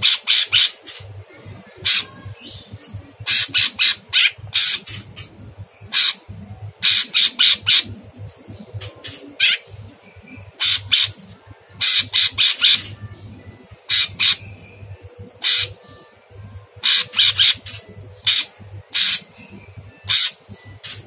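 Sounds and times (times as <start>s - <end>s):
bird calling with rasping notes: 0.0s - 1.0s, 1.9s - 8.1s, 8.8s - 11.2s, 11.8s - 16.1s, 16.8s - 21.0s.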